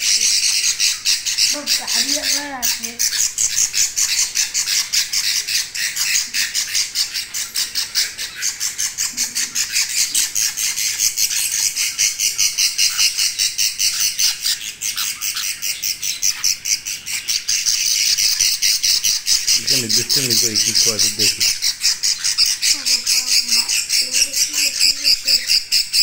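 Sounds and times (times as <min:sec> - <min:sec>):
bird chicks raspy chirps: 0:00.0 - 0:26.0.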